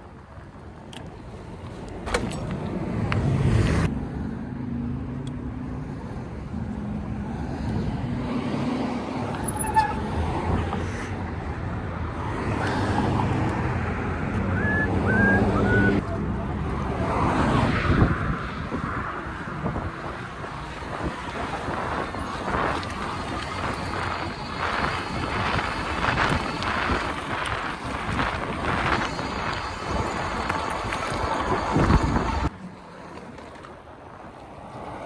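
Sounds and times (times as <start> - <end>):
cars passing: 0.0 - 35.0
steady road noise: 0.0 - 35.0.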